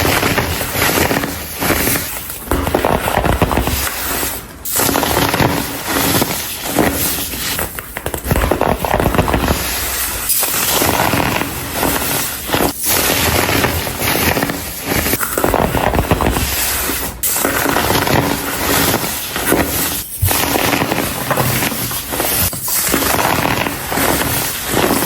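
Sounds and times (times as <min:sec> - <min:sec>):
baking soda blocks crunching: 0:00.0 - 0:25.0.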